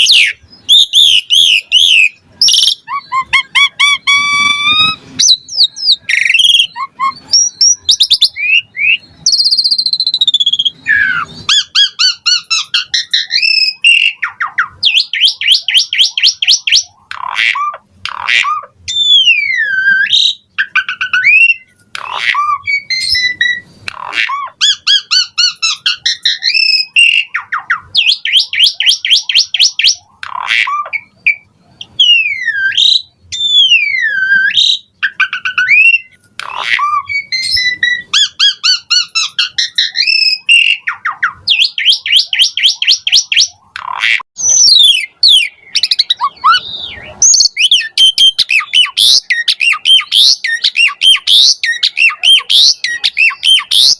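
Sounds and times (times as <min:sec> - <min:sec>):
starling singing: 0:00.0 - 0:53.9.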